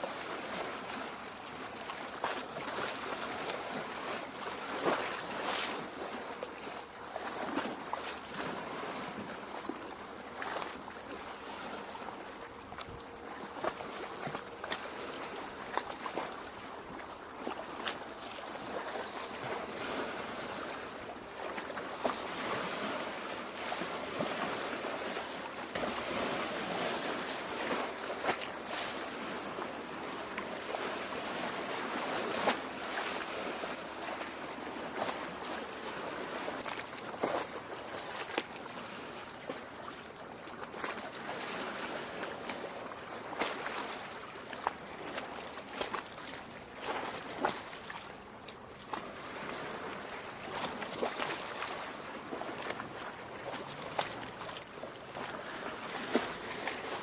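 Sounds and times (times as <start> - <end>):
water lapping at shore: 0.0 - 57.0.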